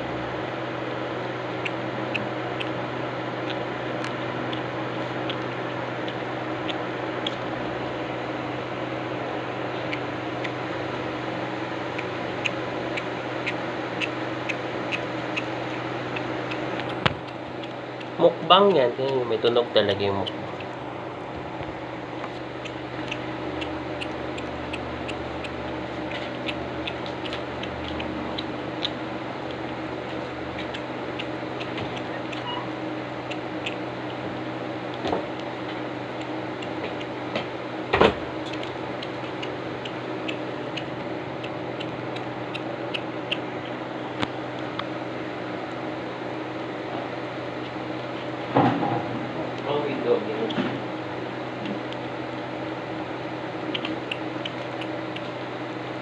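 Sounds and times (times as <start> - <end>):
steady machine hum: 0.0 - 56.0
kitten chewing clicks: 1.6 - 8.0, 9.8 - 37.6, 38.3 - 45.0, 51.3 - 56.0.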